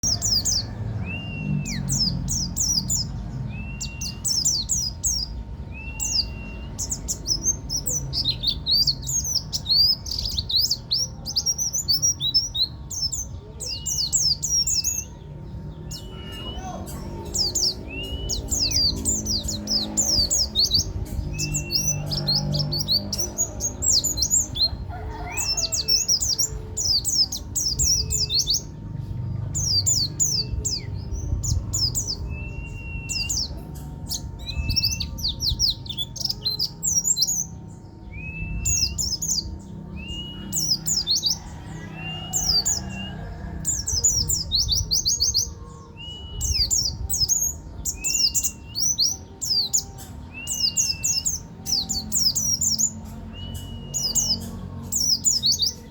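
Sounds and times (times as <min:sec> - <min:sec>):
songbird twittering trills: 0:00.0 - 0:55.9.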